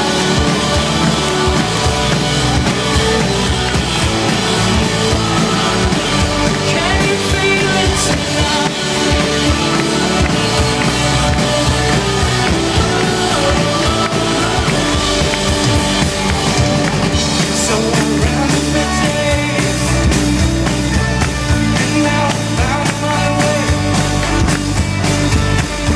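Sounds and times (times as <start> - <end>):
drum kit beat: 0.0 - 25.9
electric guitars: 0.0 - 25.9
keyboards: 0.0 - 25.9.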